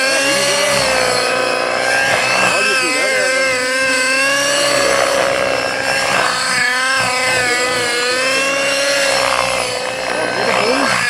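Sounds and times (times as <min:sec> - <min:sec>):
model helicopter engine whine: 0:00.0 - 0:11.0.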